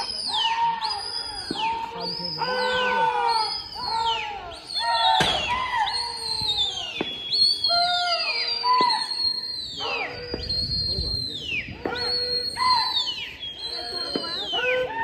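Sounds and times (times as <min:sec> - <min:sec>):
people whistling shrilly: 0:00.0 - 0:15.0.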